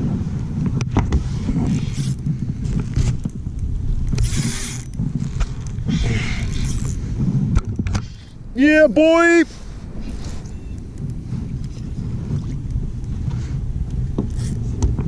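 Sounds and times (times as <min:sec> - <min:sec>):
fishing gear rumbling and scraping: 0:00.0 - 0:15.0.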